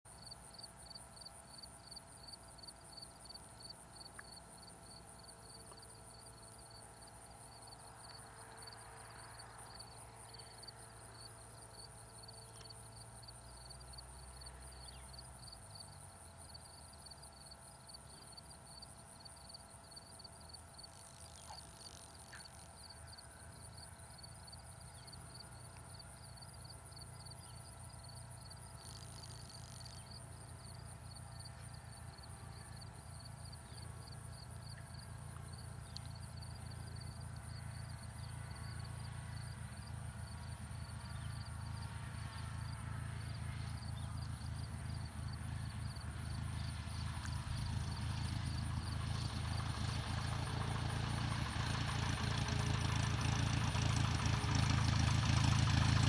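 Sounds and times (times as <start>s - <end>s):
distant aircraft engine drone: 0.1s - 56.0s
insects chirring: 0.2s - 55.6s.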